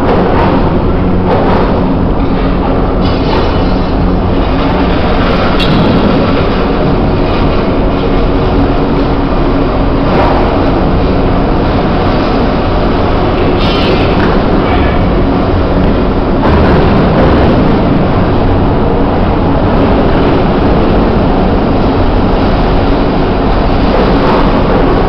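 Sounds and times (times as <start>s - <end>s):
machine humming: 0.0s - 25.0s
machine rumbling: 0.0s - 25.0s.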